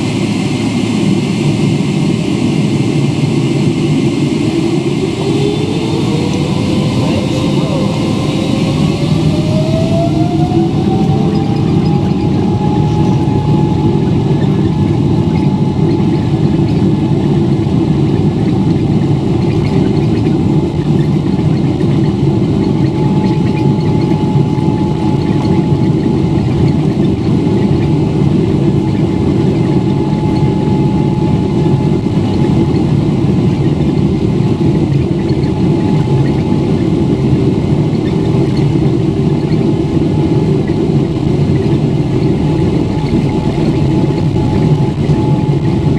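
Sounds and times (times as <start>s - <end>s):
jet engines rumbling and whining: 0.0s - 45.9s.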